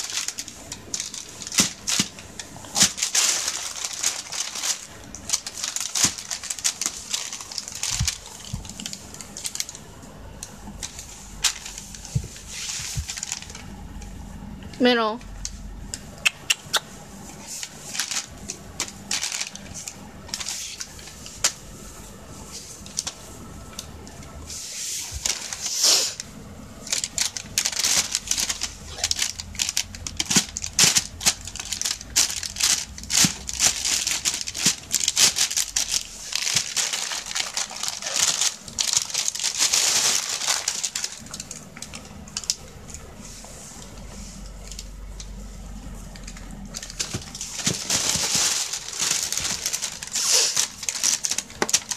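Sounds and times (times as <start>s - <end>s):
plastic bag crinkling: 0.0s - 14.0s, 17.4s - 21.7s, 24.9s - 51.9s.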